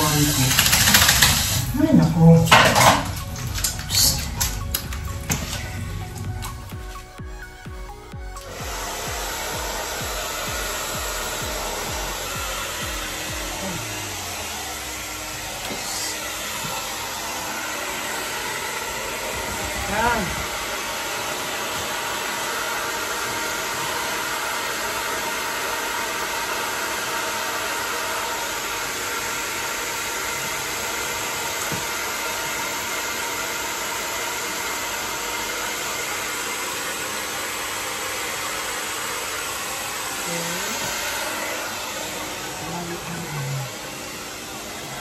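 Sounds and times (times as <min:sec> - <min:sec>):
hair dryer running: 0:00.0 - 0:45.0.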